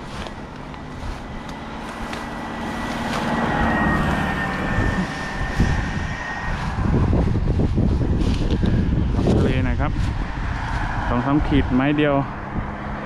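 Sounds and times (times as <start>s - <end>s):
vehicle passing by: 0.0s - 13.0s
wind noise: 0.0s - 13.0s.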